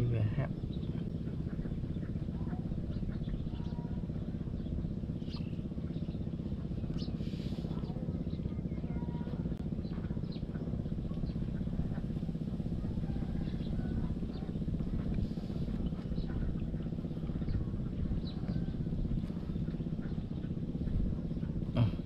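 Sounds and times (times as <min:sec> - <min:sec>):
birds chirping: 0:00.0 - 0:22.0
small engine running: 0:00.0 - 0:22.0.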